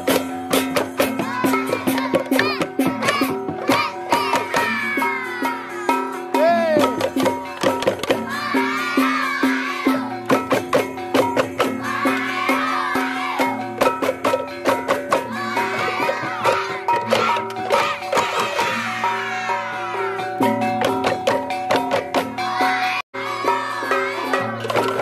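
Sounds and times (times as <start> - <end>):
clatter of struck percussion: 0.0 - 25.0
gamelan ringing pitched notes: 0.0 - 25.0
wavering higher melody: 0.0 - 25.0.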